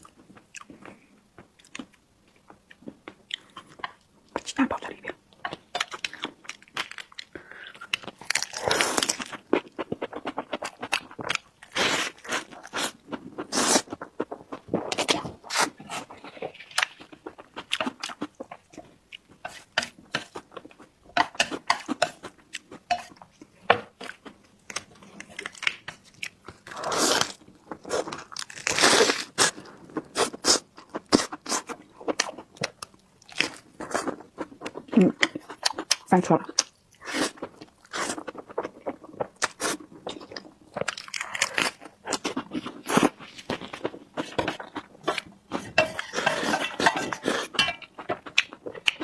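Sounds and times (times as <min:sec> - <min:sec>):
person chewing and crunching food: 0:00.0 - 0:04.5, 0:05.3 - 0:49.0.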